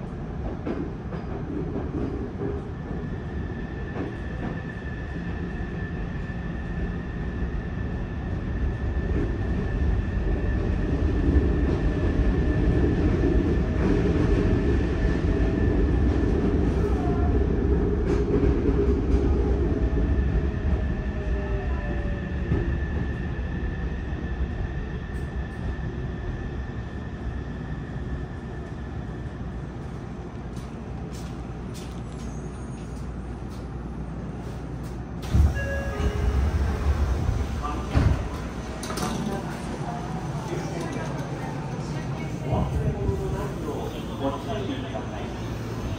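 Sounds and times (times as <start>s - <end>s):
train wheel and rail rumble: 0.0s - 45.9s.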